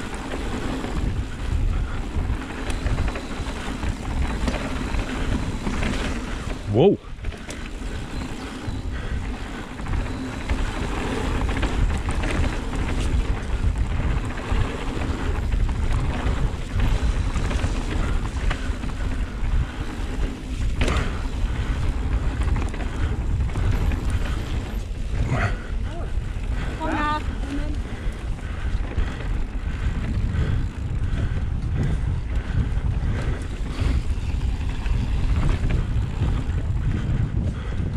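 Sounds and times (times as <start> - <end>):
bike tyres rolling on dirt: 0.0 - 37.9
wind buffeting microphone: 0.0 - 37.9.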